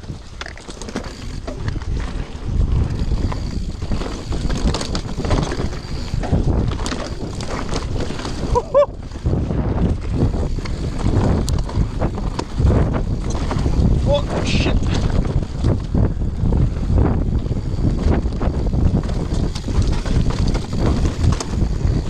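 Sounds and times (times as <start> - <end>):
bike rattling and knocking: 0.0 - 22.0
bike tyres rumbling on dirt: 0.0 - 22.0
wind buffeting microphone: 0.0 - 22.0.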